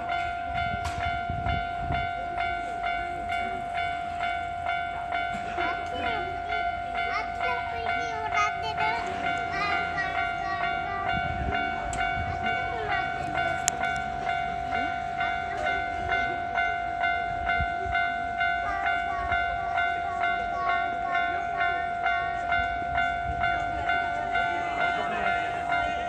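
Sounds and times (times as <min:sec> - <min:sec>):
railroad crossing warning bell: 0:00.0 - 0:26.0.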